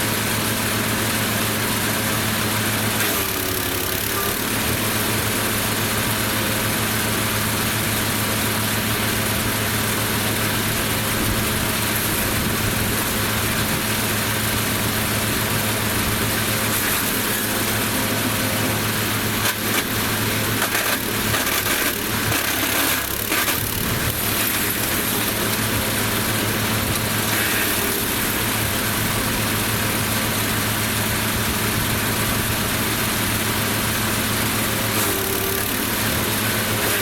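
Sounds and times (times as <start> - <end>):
wood chipper running: 0.0 - 37.0.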